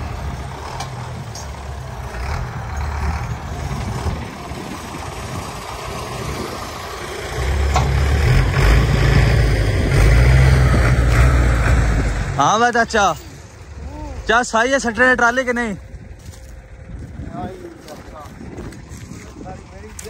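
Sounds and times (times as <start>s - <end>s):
diesel tractor engine hum: 0.0s - 20.0s.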